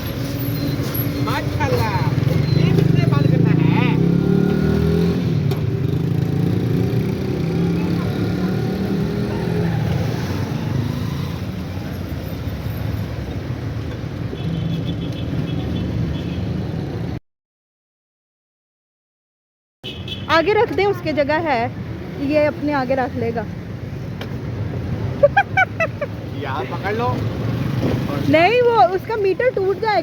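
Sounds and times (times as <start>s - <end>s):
street noise: 0.0s - 17.2s, 19.8s - 30.0s.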